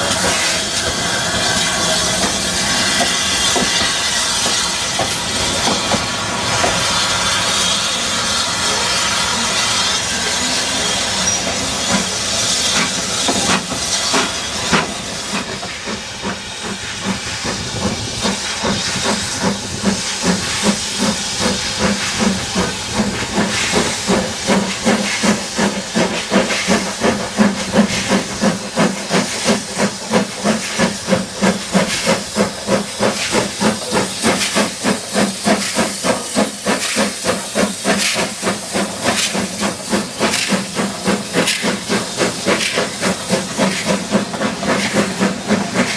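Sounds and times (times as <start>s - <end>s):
steam locomotive exhaust beats: 0.0s - 45.9s
steam locomotive hissing: 0.0s - 45.9s.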